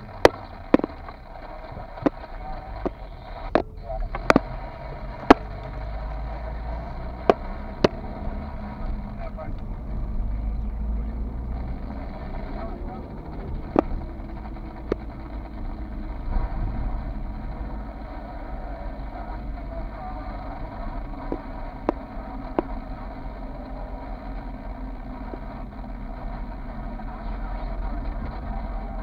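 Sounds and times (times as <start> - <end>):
car engine and tyre rumble: 0.0 - 29.0
sharp clicks: 0.2 - 1.2, 2.0 - 9.7, 11.6 - 27.2.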